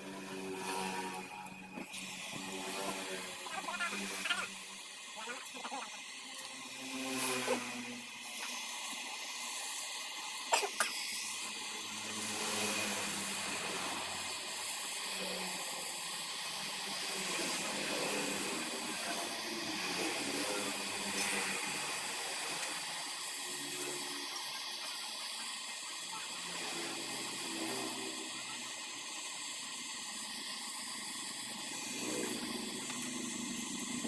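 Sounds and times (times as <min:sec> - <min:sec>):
welding torch flame hissing: 0:00.0 - 0:34.0.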